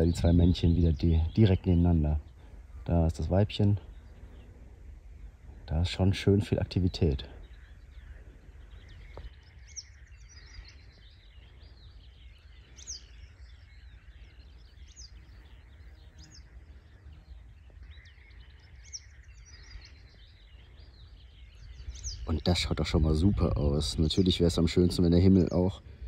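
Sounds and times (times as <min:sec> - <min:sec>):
birds chirping and trilling: 0:00.0 - 0:26.0.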